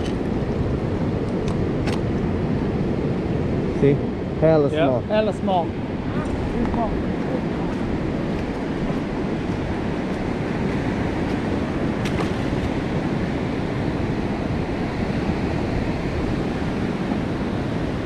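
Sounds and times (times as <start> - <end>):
ocean surf rushing: 0.0 - 18.0
wind buffeting microphone: 0.0 - 18.0.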